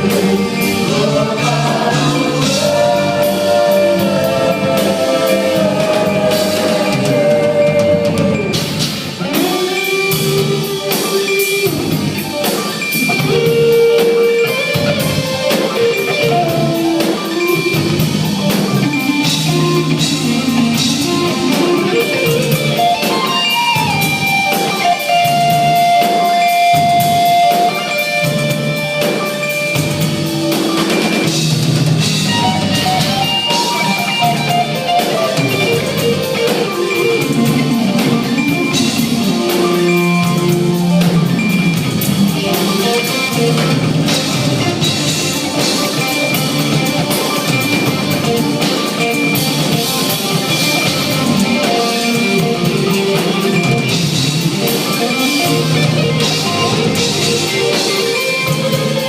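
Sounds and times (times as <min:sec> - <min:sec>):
drum kit: 0:00.0 - 0:59.0
electric guitar lead: 0:00.0 - 0:59.0.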